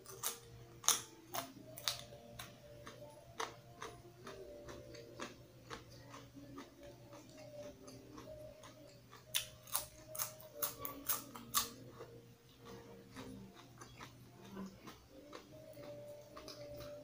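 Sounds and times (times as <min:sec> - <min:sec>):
chewing crisp leafy greens: 0:00.0 - 0:17.0
faint steady hum: 0:00.0 - 0:17.0.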